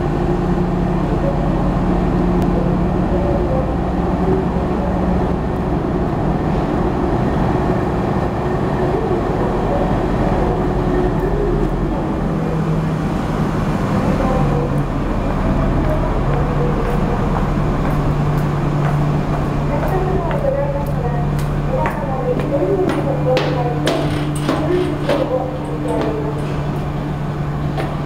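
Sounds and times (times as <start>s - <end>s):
ferry engines droning: 0.0s - 28.0s.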